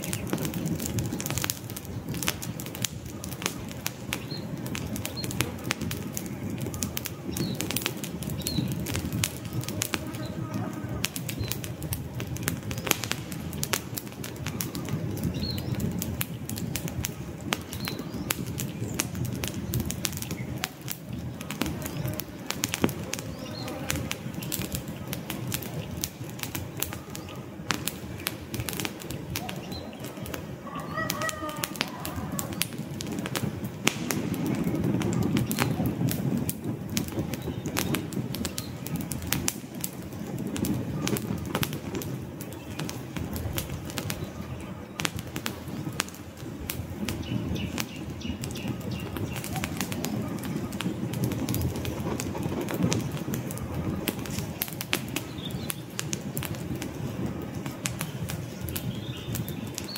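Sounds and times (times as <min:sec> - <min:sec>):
campfire flames rushing: 0:00.0 - 0:59.9
fire crackling and popping: 0:00.0 - 0:59.9.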